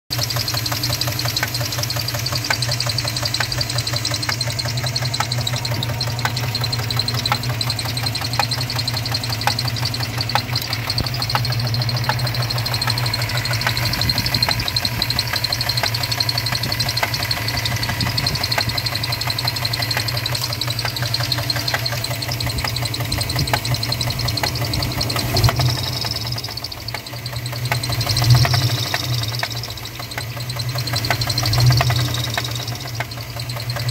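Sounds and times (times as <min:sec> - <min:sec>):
engine knocking: 0:00.1 - 0:33.9
truck engine idling: 0:00.1 - 0:33.9.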